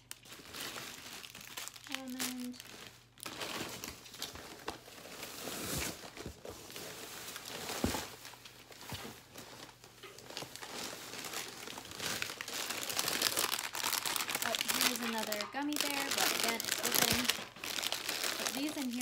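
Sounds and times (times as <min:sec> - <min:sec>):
plastic wrappers crinkling: 0:00.0 - 0:19.0.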